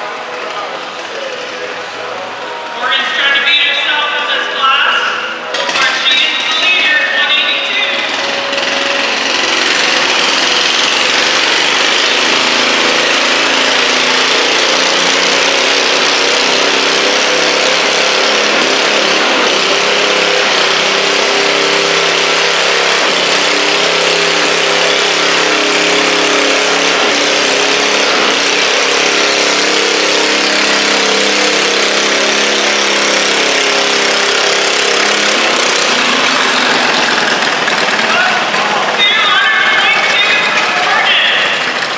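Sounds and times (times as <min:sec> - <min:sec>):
small engine running hard: 0:00.0 - 0:41.9.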